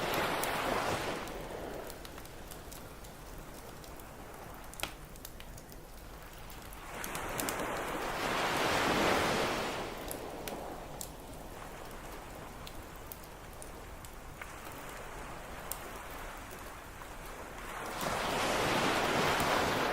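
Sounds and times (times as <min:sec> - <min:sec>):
campfire crackling: 0:00.0 - 0:19.9
ocean surf on beach: 0:00.0 - 0:19.9.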